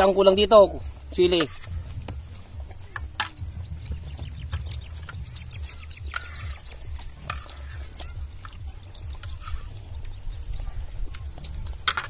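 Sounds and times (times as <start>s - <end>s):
people chewing: 0.0s - 12.0s
low rumble: 0.8s - 11.9s
spoon scraping on plates: 0.8s - 12.0s.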